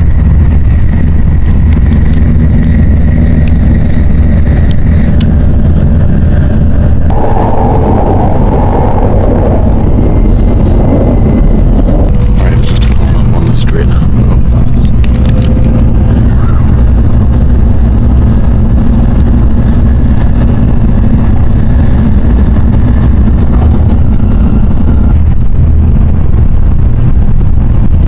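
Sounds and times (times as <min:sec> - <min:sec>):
train rumble inside passenger car: 0:00.0 - 0:28.0.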